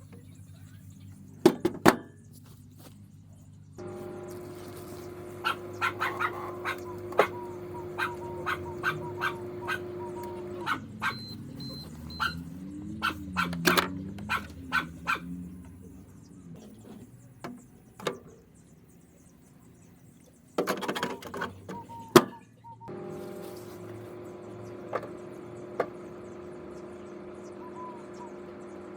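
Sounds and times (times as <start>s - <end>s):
microwave hum: 3.1s - 28.9s.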